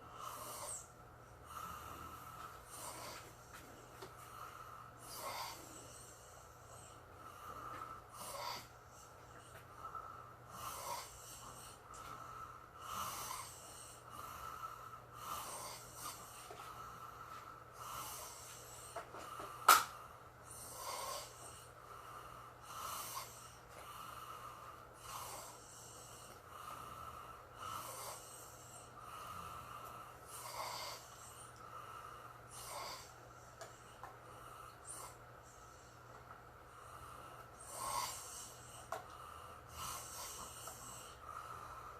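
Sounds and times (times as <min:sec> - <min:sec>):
slow snoring: 0:00.0 - 0:36.0, 0:36.6 - 0:41.9.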